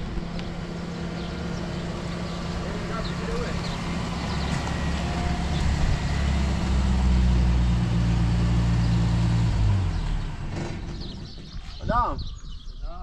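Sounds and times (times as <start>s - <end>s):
low-pitched engine running: 0.0s - 11.6s.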